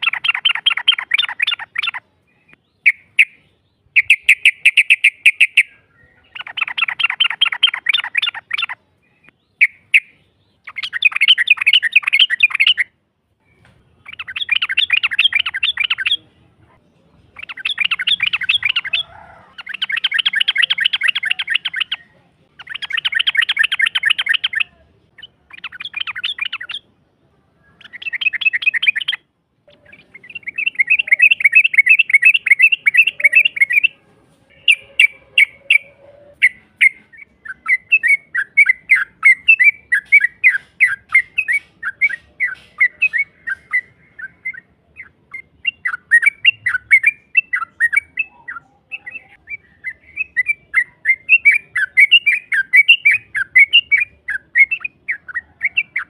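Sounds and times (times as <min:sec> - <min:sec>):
bird chirps: 0:00.0 - 0:56.0.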